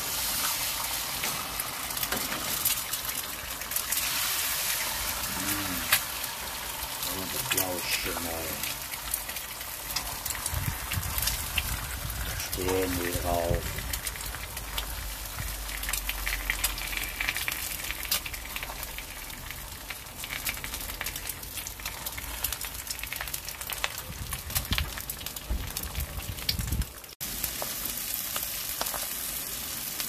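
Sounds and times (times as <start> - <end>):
eggs sizzling in a pan: 0.0 - 30.0.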